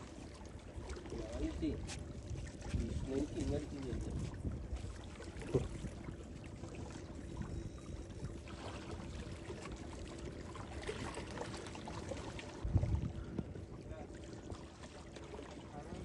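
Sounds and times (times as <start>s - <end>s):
faint steady hum: 0.0s - 16.0s
water trickling and splashing: 0.0s - 16.0s.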